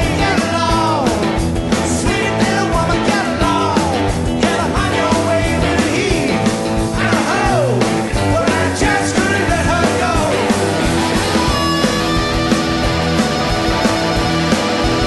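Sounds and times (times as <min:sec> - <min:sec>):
bass: 0:00.0 - 0:15.0
drums: 0:00.0 - 0:15.0
electric guitar: 0:00.0 - 0:15.0.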